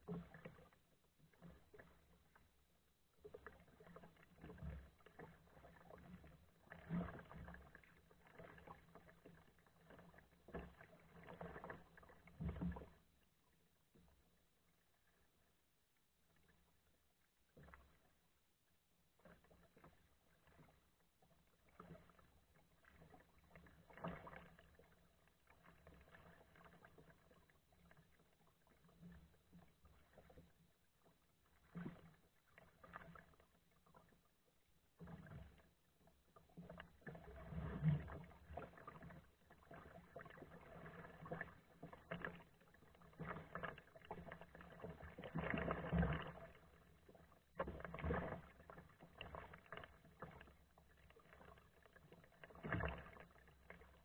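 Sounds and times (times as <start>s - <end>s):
kayak paddle splashing: 0.0s - 18.4s, 19.0s - 54.0s.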